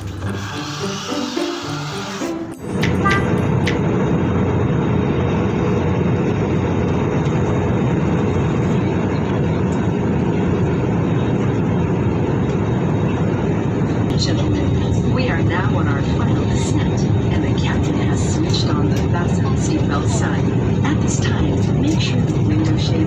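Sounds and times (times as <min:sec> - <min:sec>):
airliner cabin engine noise: 0:00.0 - 0:23.0.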